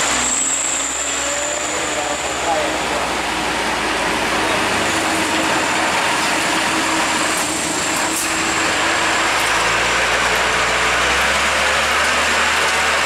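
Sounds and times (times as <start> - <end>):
road and traffic hiss: 0.0 - 13.0
truck engine rumble: 0.0 - 13.0.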